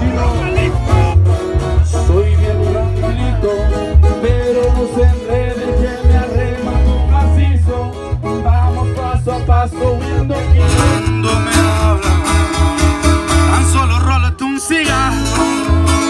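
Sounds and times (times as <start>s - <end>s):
acoustic-electric guitar strumming: 0.0s - 16.0s
person singing: 0.0s - 16.0s
pulsing bass line: 0.0s - 16.0s.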